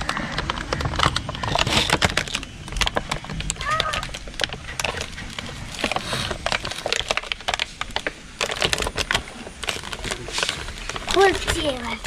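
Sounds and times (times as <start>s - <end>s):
toy vehicles clicking on hard surface: 0.0s - 12.0s.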